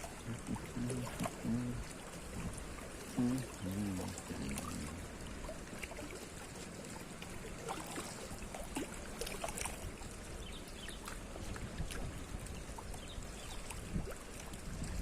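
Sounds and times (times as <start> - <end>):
seawater lapping: 0.0 - 15.0
small splashes and trickles: 0.0 - 15.0.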